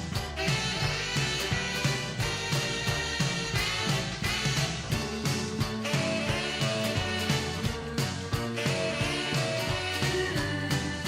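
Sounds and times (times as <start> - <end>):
upbeat music: 0.0 - 11.0.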